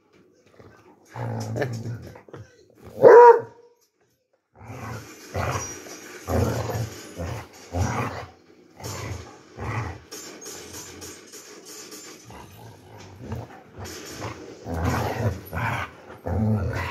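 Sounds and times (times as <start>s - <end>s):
dog play-growling: 0.5s - 3.1s, 4.5s - 11.1s, 12.0s - 16.9s.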